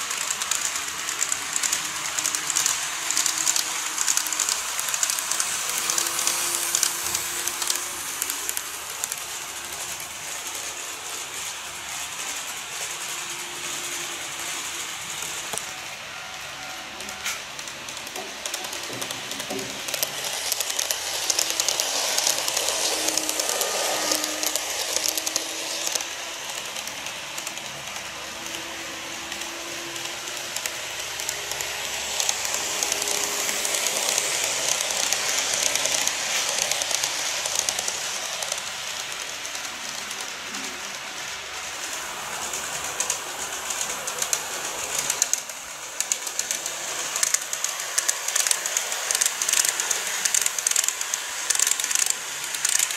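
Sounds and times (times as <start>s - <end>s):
model train wheels rattling on rail: 0.0s - 52.9s.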